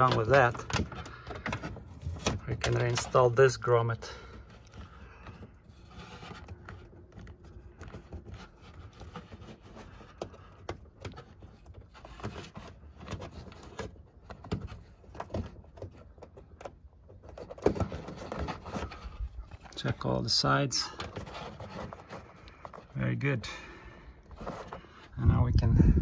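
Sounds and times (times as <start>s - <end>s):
rubber grommet rubbing: 0.0s - 26.0s.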